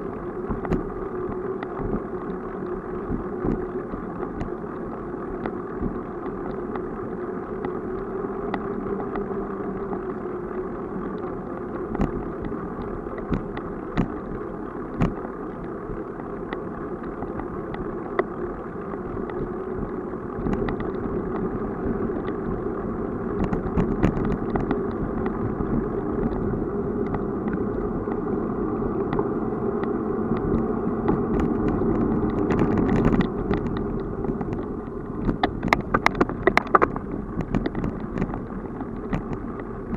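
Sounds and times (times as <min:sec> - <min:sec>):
bicycle clicks and rattles: 0:00.0 - 0:39.9
bicycle tyres rolling: 0:00.0 - 0:39.9.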